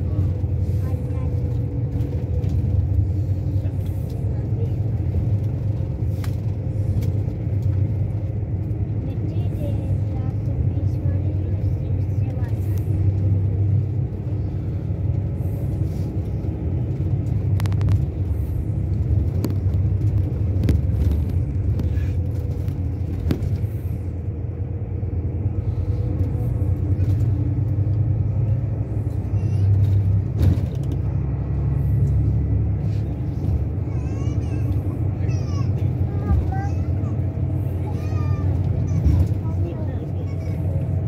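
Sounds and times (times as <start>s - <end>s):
engine and tyre rumble: 0.0s - 41.0s.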